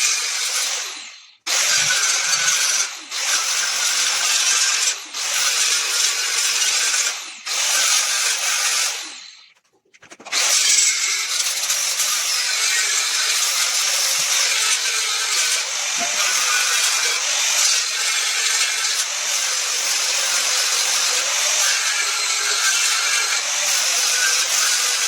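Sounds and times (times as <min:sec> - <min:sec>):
power tool running on wood: 0:00.0 - 0:09.2, 0:10.3 - 0:25.0.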